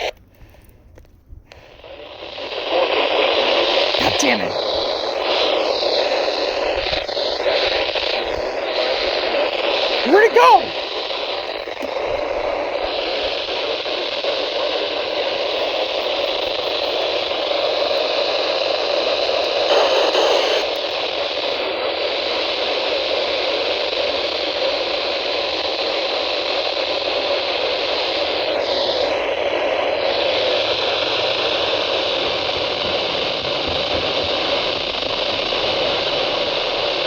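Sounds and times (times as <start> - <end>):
radio static hiss: 0.0 - 0.6, 1.5 - 37.0.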